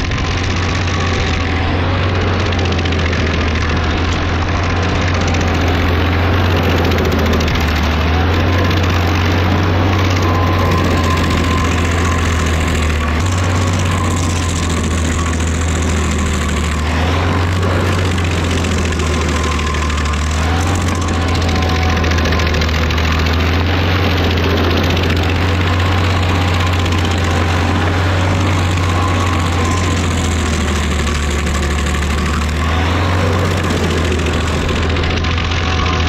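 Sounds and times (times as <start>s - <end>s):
grinding wood: 0.0s - 36.0s
stump grinder engine drone: 0.0s - 36.0s.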